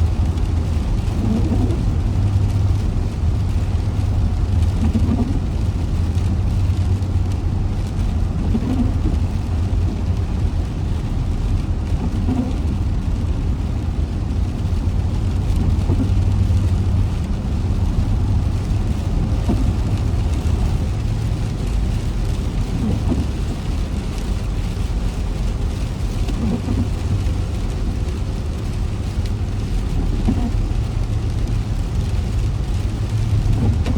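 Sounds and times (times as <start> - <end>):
car driving on a wet road: 0.0 - 33.9
rain hissing: 0.0 - 33.9.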